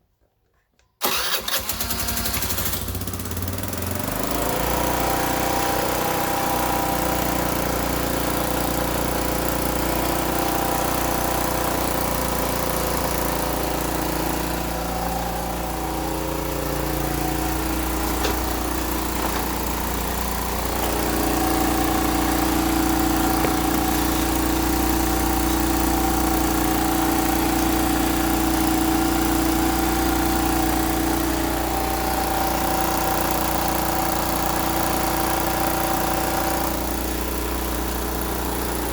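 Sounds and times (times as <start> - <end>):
scooter engine idling: 1.0 - 38.9.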